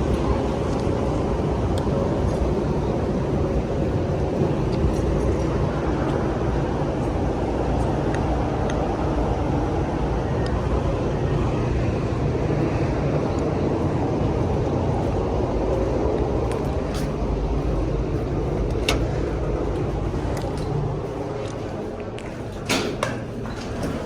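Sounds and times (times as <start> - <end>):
steady low rumbling: 0.0 - 24.0.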